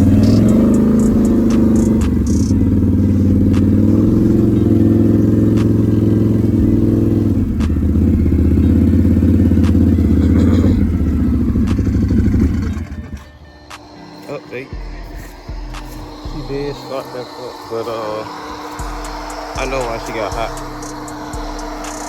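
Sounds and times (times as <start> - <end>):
atv engine running: 0.0 - 13.8, 14.7 - 17.0, 18.0 - 22.0.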